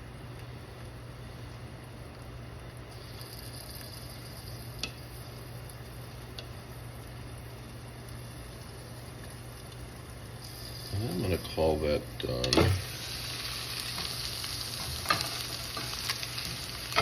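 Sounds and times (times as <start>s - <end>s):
eggs sizzling in a pan: 0.3s - 17.0s.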